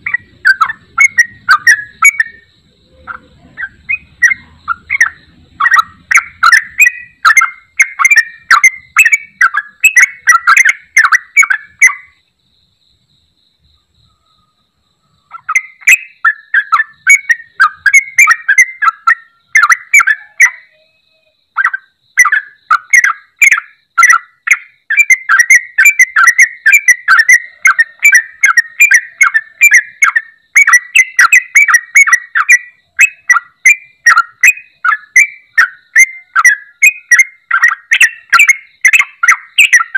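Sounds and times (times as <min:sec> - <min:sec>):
bird singing bubbly phrases: 0:00.0 - 0:12.2, 0:15.2 - 0:39.9.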